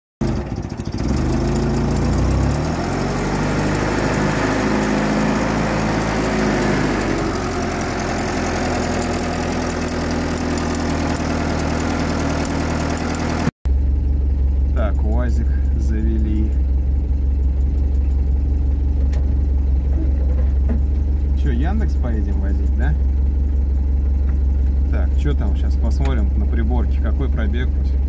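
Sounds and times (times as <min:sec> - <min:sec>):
engine idling: 0:00.2 - 0:28.0.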